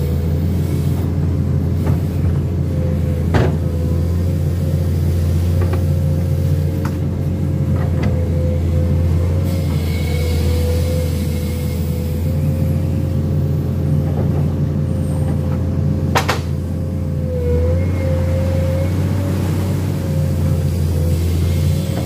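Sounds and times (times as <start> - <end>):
excavator diesel engine droning: 0.0 - 22.0
hydraulic whine: 0.0 - 22.0.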